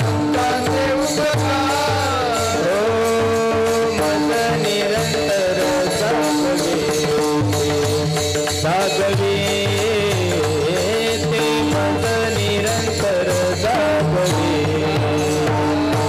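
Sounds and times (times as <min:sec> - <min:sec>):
hand cymbals striking: 0:00.0 - 0:16.0
steady drum beat: 0:00.0 - 0:16.0.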